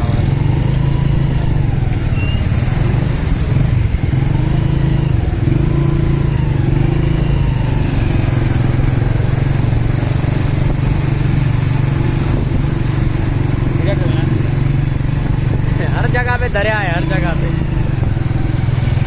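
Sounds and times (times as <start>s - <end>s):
faint surrounding traffic: 0.0s - 19.0s
vehicle engine running: 0.0s - 19.0s.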